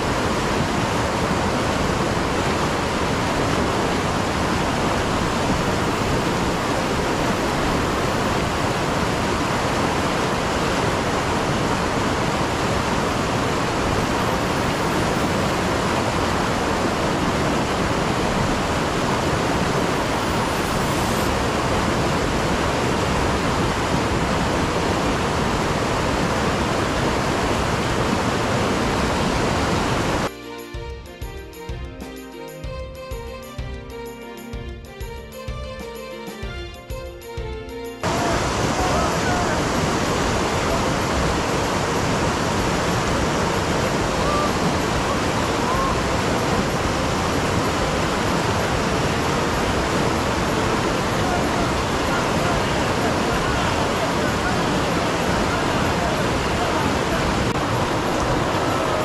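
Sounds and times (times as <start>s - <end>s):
water rushing through rapids: 0.0s - 30.3s, 38.0s - 59.0s.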